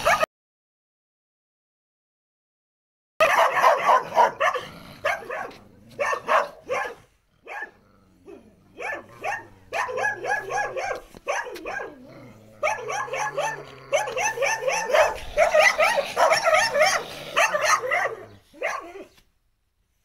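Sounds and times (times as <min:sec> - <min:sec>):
dogs barking aggressively: 0:00.0 - 0:00.3, 0:03.2 - 0:19.2.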